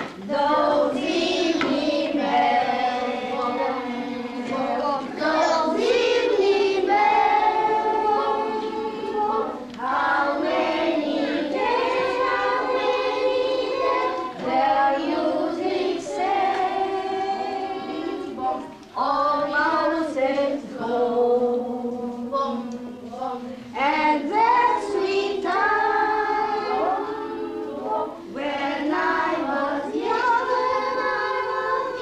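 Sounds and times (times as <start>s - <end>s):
young children singing: 0.0s - 32.0s.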